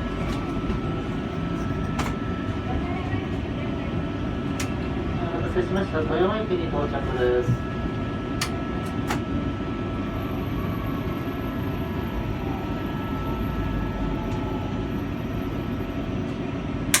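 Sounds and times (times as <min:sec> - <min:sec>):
faint steady whine: 0:00.0 - 0:17.0
tram rumbling and humming: 0:00.0 - 0:17.0.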